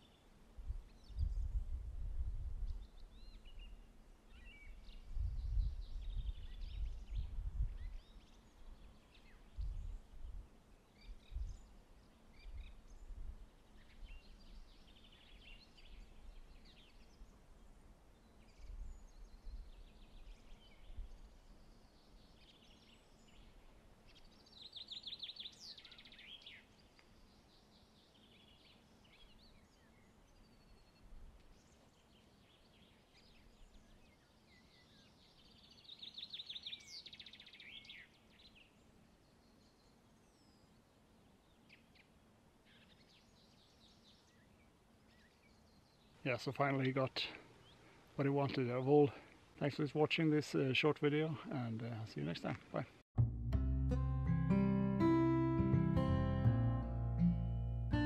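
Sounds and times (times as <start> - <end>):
songbirds chirping: 0.0 - 1.8, 2.5 - 53.0, 53.9 - 58.0.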